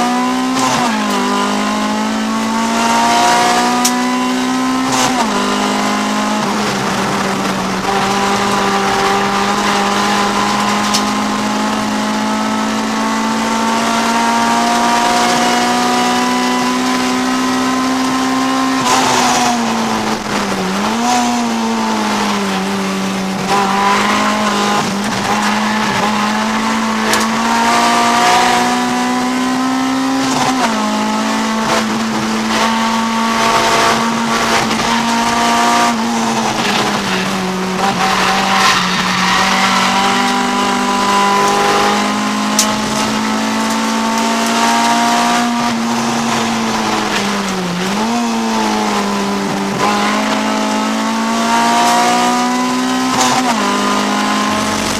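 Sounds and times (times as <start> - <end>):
car engine at high revs: 0.0 - 54.9.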